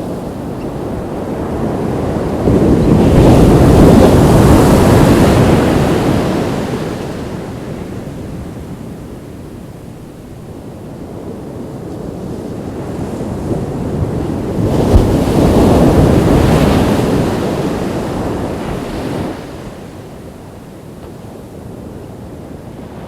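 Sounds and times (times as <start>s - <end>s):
surf rumble: 0.0s - 23.0s
wind on microphone: 0.0s - 23.0s.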